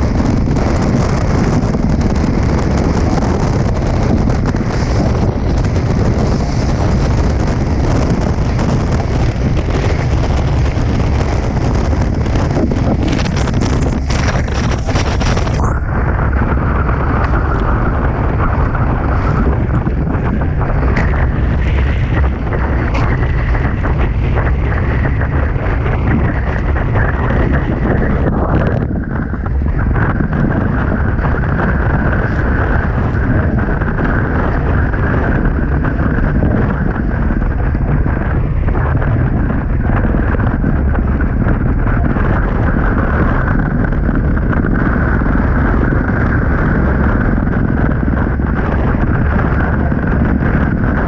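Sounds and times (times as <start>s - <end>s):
wind hiss: 0.0s - 51.0s
wind rumble on microphone: 0.0s - 51.0s.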